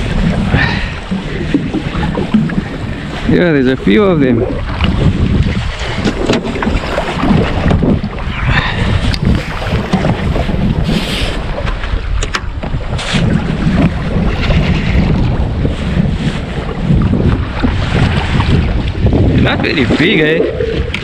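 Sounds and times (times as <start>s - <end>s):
water splashing around boat: 0.0s - 21.0s
wind buffeting microphone: 0.0s - 21.0s.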